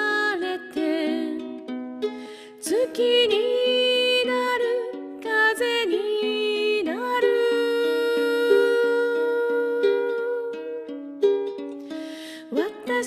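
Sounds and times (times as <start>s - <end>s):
woman singing: 0.0s - 1.6s, 2.4s - 11.0s, 12.4s - 13.0s
ukulele chords: 0.0s - 13.0s.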